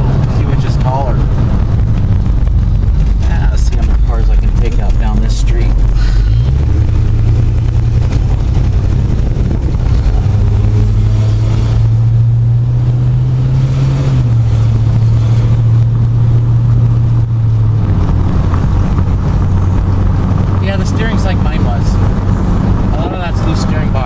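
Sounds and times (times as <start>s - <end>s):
car engine running: 0.0s - 24.0s
road noise: 0.0s - 24.0s.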